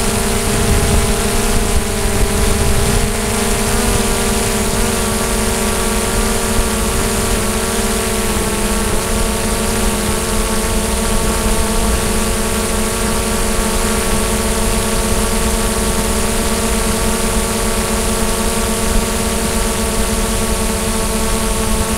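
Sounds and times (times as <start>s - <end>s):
drone propellers whirring: 0.0s - 21.9s.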